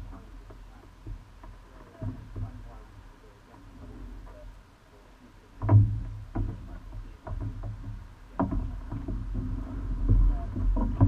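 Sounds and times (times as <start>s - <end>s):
oars knocking in oarlocks: 0.0s - 4.6s, 5.5s - 11.0s
water rushing along hull: 0.0s - 11.0s.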